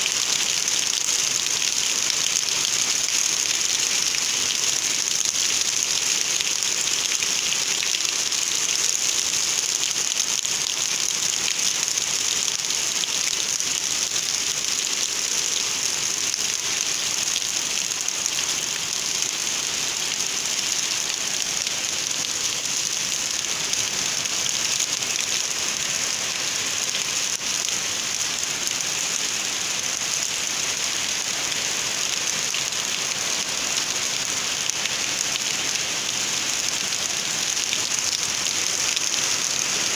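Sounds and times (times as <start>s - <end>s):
heavy rain on ground and foliage: 0.0s - 39.9s.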